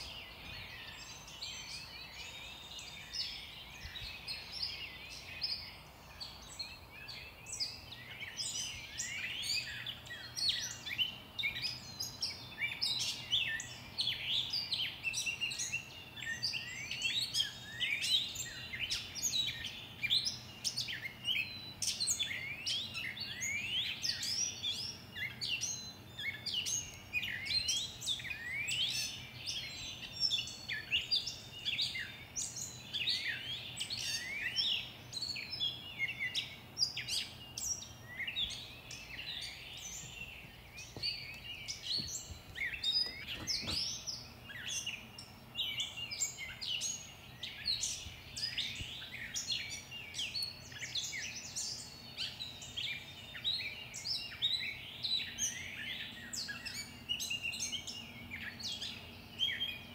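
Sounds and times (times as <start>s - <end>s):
many songbirds singing: 0.0s - 59.9s.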